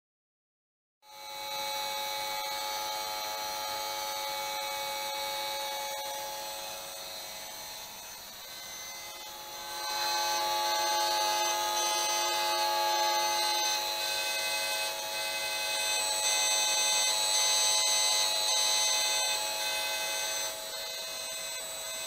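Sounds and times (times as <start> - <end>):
meter multi-tone buzz: 1.0 - 22.0.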